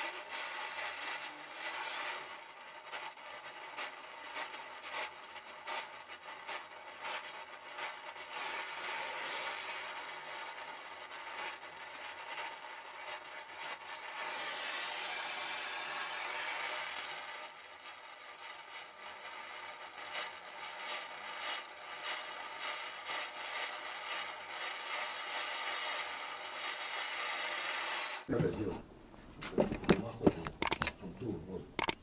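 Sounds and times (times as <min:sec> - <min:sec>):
weld crackling: 0:00.0 - 0:32.0
welding torch hissing: 0:00.0 - 0:32.0.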